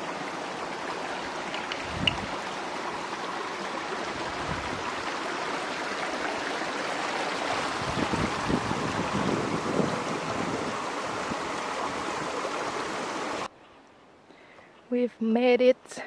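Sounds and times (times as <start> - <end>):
stream rushing: 0.0 - 13.5.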